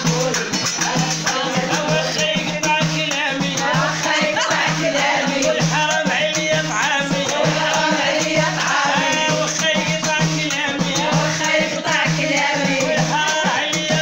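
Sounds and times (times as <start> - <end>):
frame drum: 0.0 - 14.0
metal tray beaten as drum: 0.0 - 14.0
women singing: 0.0 - 14.0.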